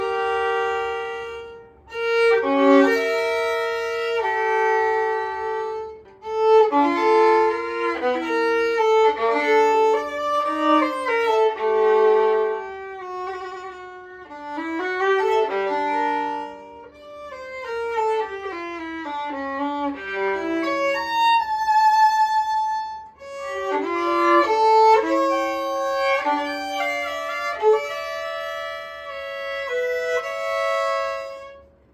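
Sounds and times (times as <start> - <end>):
solo violin melody: 0.0 - 31.9.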